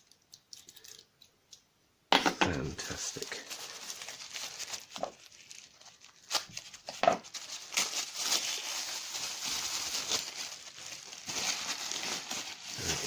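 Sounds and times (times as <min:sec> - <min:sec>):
packing material rustling: 0:00.0 - 0:01.1, 0:02.8 - 0:13.0.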